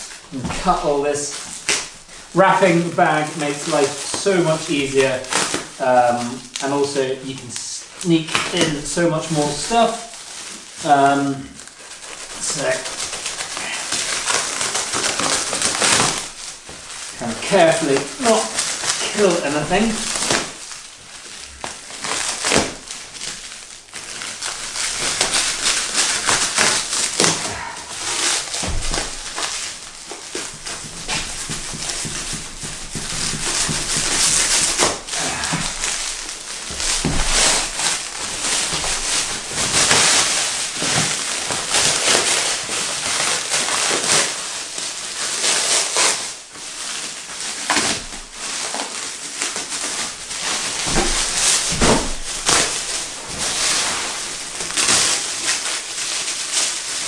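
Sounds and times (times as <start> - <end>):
plastic wrap crinkling and rustling: 0.0 - 57.0
plastic wrap tearing: 0.0 - 57.0.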